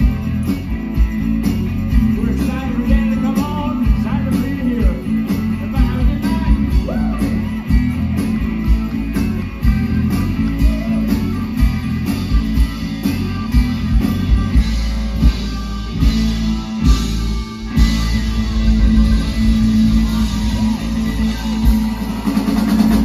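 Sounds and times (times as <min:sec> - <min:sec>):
country-rock band playing: 0:00.0 - 0:23.0
drum-kit beat: 0:00.0 - 0:23.0
electric guitar: 0:00.0 - 0:23.0.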